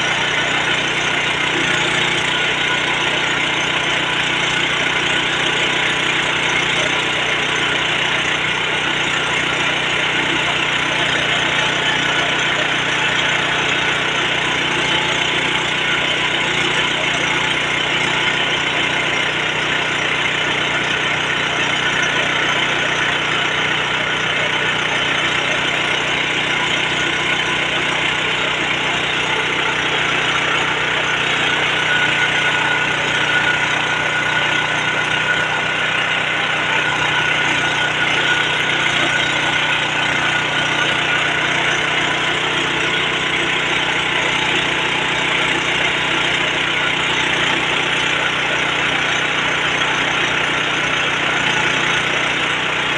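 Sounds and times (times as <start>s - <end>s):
rice milling machine running: 0.0s - 52.9s.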